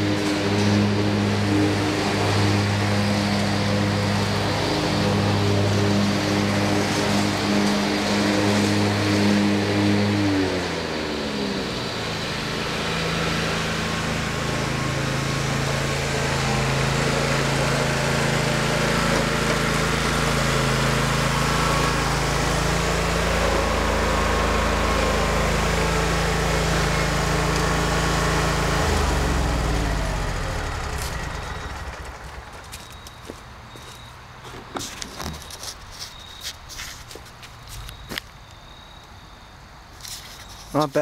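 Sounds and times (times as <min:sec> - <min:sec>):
lawn mower engine running: 0:00.0 - 0:38.2.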